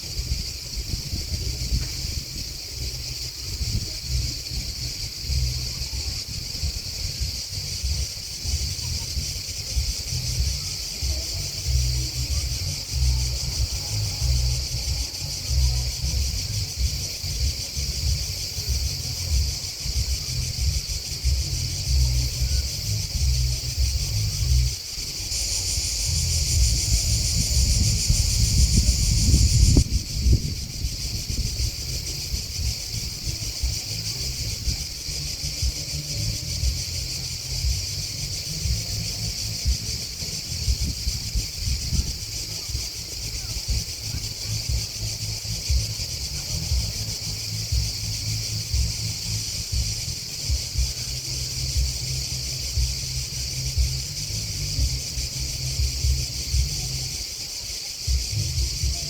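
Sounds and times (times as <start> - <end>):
wind buffeting microphone: 0.0 - 57.2
insects chirring: 0.0 - 59.0.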